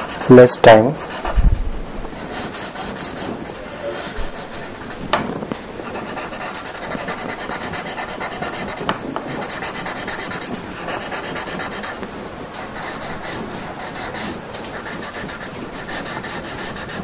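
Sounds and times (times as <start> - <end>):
pencil shading on paper: 0.0 - 1.4, 2.1 - 5.1, 5.8 - 12.0, 12.6 - 17.0.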